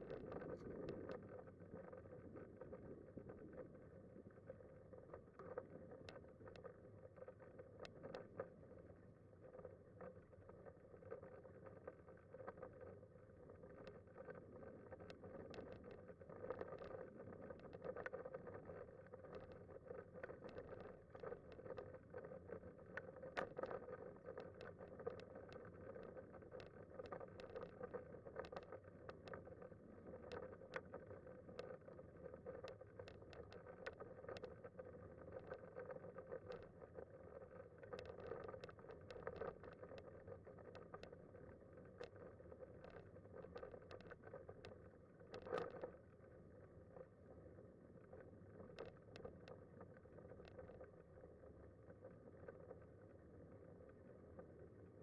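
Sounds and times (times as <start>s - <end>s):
small clicks and rattles: 0.0s - 55.0s.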